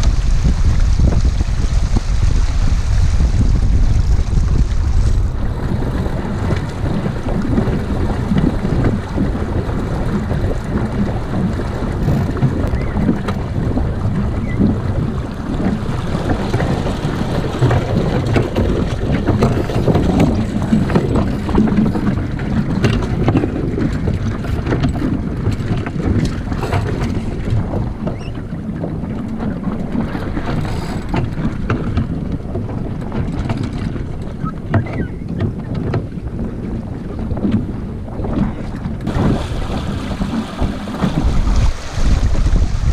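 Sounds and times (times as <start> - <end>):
water rushing along hull: 0.0 - 42.9
wind buffeting microphone: 0.0 - 42.9.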